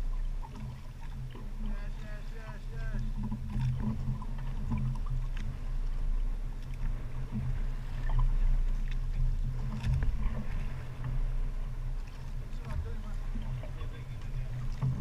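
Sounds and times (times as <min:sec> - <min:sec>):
boat engine humming: 0:00.0 - 0:15.0
water rushing along hull: 0:00.0 - 0:15.0.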